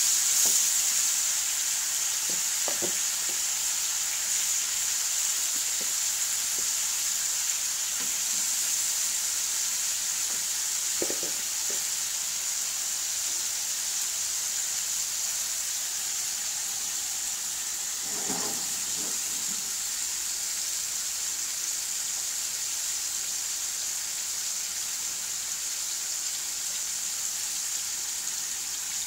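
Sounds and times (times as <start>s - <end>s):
chicken sizzling in a wok: 0.0s - 29.0s.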